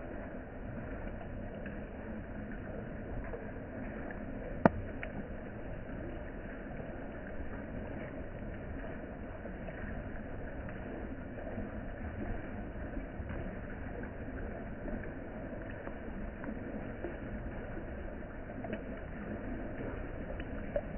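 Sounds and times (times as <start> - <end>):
rain falling on a pond: 0.0 - 20.9.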